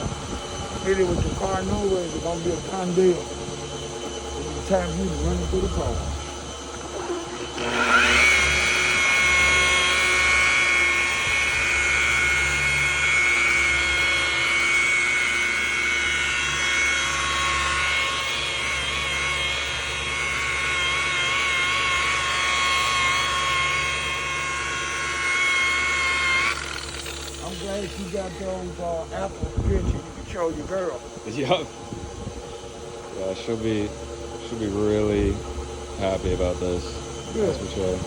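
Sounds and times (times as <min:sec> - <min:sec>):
polishing machine whining: 0:00.0 - 0:38.0.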